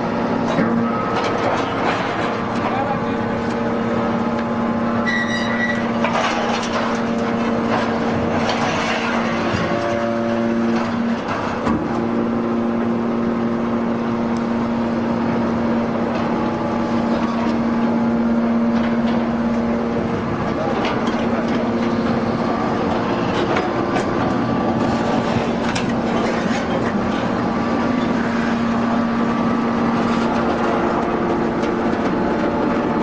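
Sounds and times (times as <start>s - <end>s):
hydraulic power unit humming: 0.0s - 33.0s.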